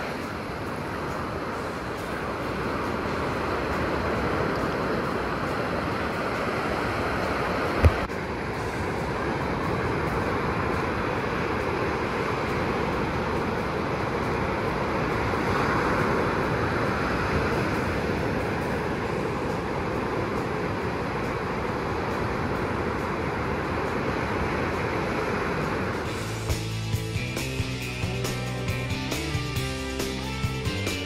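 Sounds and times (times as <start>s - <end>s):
ocean waves breaking on beach: 0.0s - 26.4s.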